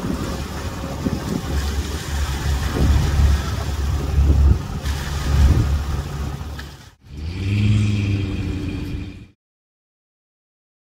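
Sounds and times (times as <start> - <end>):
engine humming: 0.0 - 9.4.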